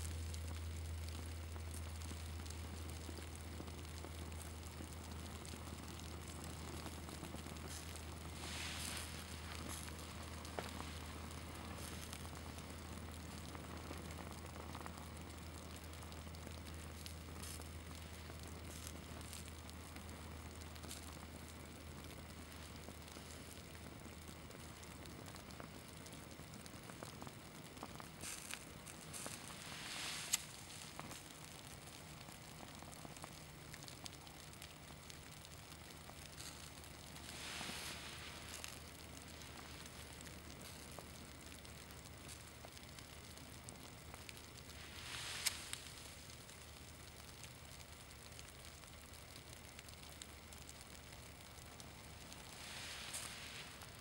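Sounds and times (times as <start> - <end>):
small flame crackling: 0.0 - 54.0.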